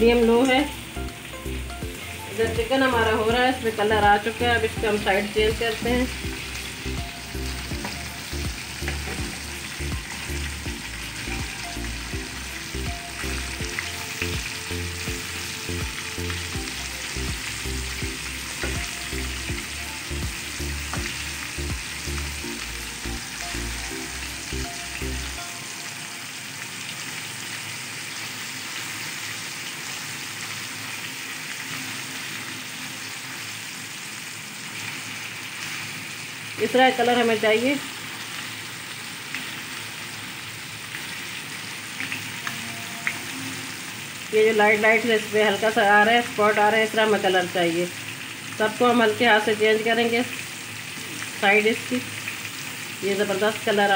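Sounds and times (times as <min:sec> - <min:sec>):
chicken sizzling in oil: 0:00.0 - 0:53.9.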